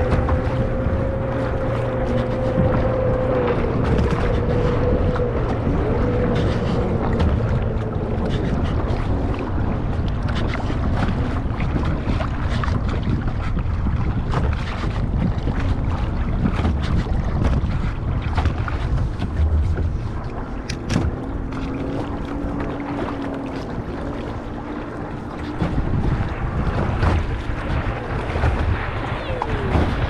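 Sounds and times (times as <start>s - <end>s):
water slapping against hull: 0.0s - 30.0s
wind noise on microphone: 0.0s - 30.0s.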